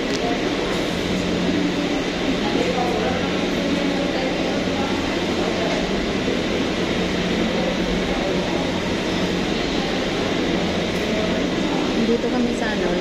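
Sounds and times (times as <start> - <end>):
ventilation hum and hiss: 0.0 - 13.0.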